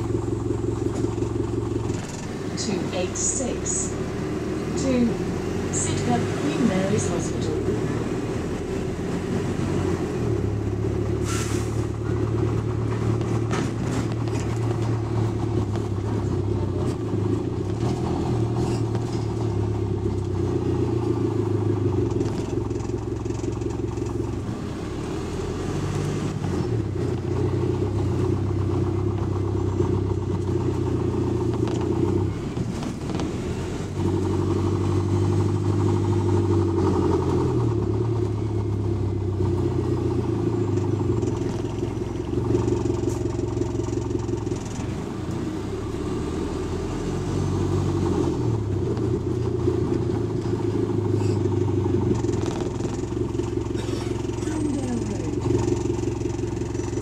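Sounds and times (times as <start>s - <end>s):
bus engine changing gear: 0.0s - 57.0s.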